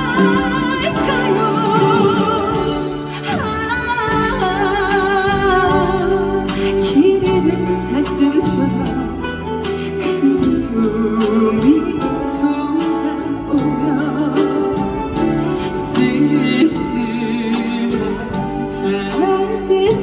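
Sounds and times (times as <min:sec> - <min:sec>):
band accompaniment: 0:00.0 - 0:20.0
steady drum beat: 0:00.0 - 0:20.0
woman singing a ballad: 0:00.0 - 0:20.0.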